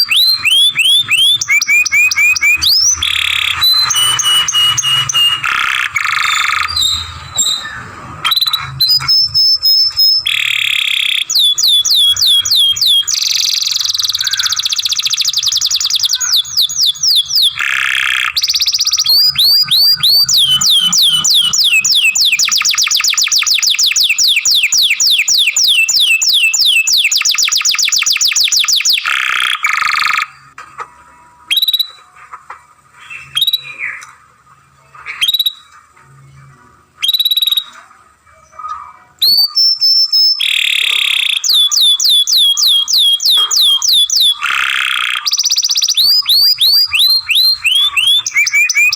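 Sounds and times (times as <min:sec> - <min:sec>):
bird chirps: 0:00.0 - 0:30.6, 0:32.9 - 0:34.2, 0:34.8 - 0:48.9
canary singing trills: 0:00.0 - 0:30.6, 0:31.2 - 0:32.2, 0:32.9 - 0:48.9.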